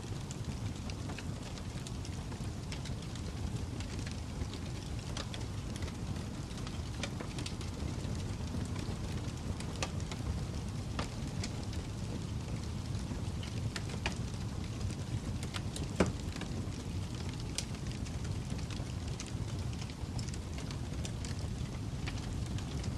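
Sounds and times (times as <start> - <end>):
fire crackling and popping: 0.0 - 22.9.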